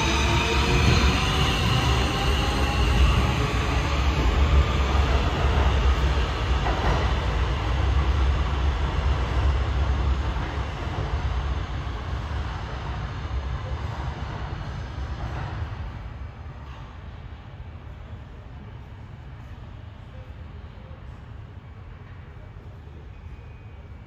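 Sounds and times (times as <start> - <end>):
subway train rumbling on track: 0.0 - 24.0.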